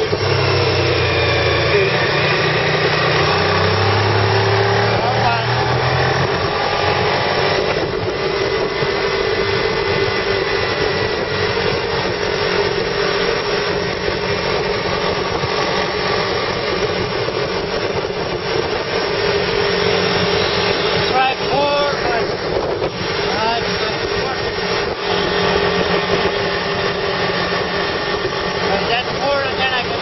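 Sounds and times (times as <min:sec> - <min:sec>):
car engine running: 0:00.0 - 0:30.0
road and tyre noise: 0:00.0 - 0:30.0.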